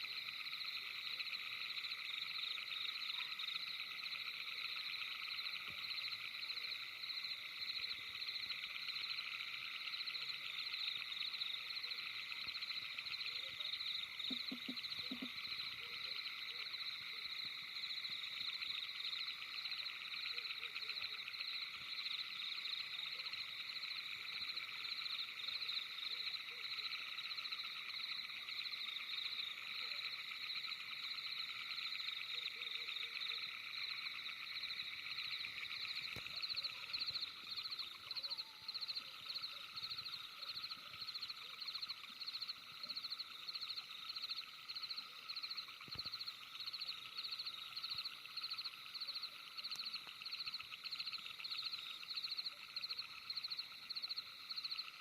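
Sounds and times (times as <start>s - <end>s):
night animal chorus trilling: 0.0s - 55.0s.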